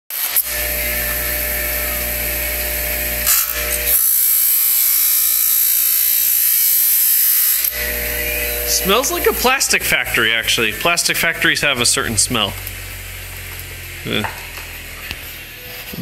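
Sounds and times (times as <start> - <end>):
bench grinder motor hum: 0.1 - 16.0.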